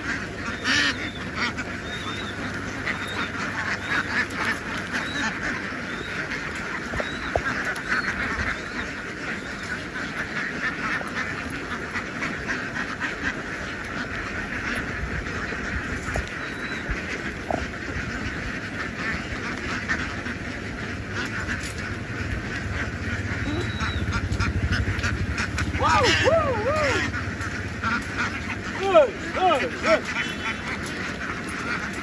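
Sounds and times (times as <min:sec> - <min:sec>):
flock of ducks quacking: 0:00.0 - 0:32.0.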